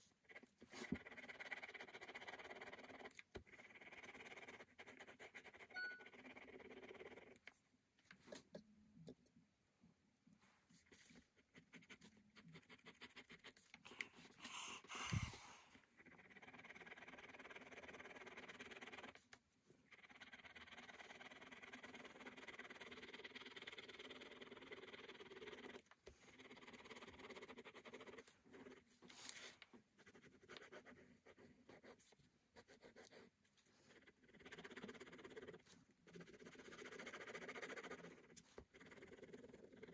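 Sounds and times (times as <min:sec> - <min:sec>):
ballpoint pen scratching paper: 0:00.0 - 0:07.6, 0:10.7 - 0:39.9.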